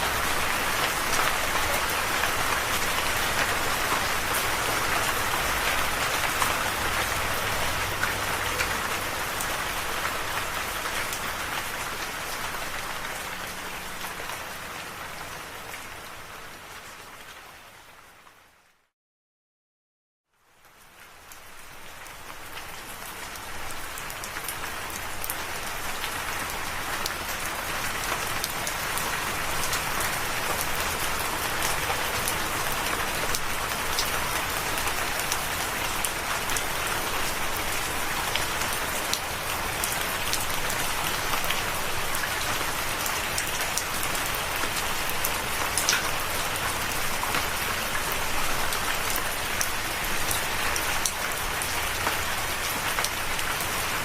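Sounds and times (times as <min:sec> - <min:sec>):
steady rain falling: 0:00.0 - 0:18.9, 0:20.3 - 0:54.0.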